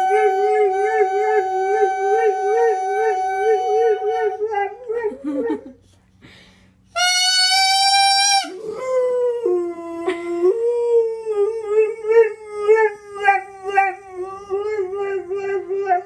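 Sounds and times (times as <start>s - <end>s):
dog howling: 0.0s - 5.7s, 8.6s - 16.0s.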